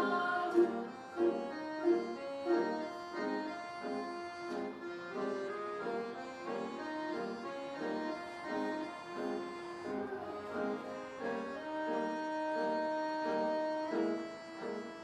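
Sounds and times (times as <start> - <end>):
instrumental repeated chords: 0.0 - 15.0.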